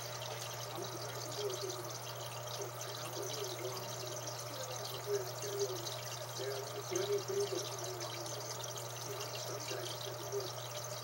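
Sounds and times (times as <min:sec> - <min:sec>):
aquarium water trickling and bubbling: 0:00.0 - 0:11.0.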